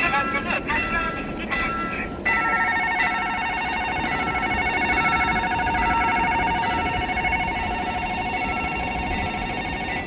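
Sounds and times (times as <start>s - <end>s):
level crossing bell ringing: 0.0s - 10.0s
low rumbling noise: 0.0s - 10.0s.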